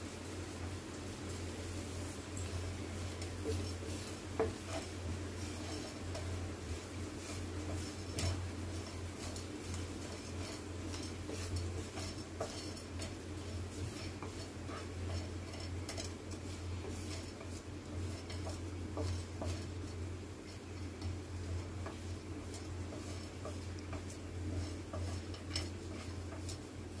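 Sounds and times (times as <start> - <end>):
steady low hum: 0.0 - 27.0
spatula and spices tapping on pan: 3.1 - 27.0.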